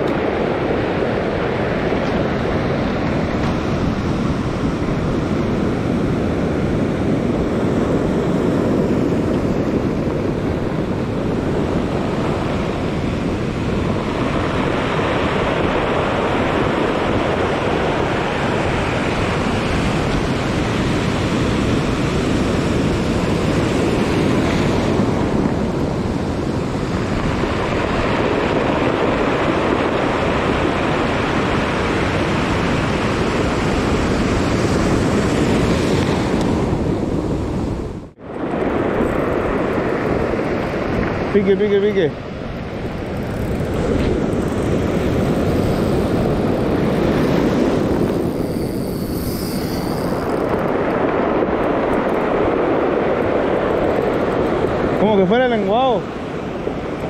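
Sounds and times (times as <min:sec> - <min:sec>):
surf breaking on stony beach: 0:00.0 - 0:57.0
wind buffeting microphone: 0:00.0 - 0:57.0.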